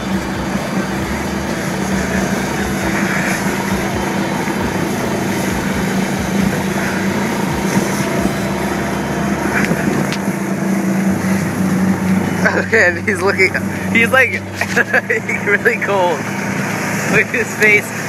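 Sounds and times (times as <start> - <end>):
golf cart motor drone: 0.0 - 18.0
noisy rush: 0.0 - 18.0.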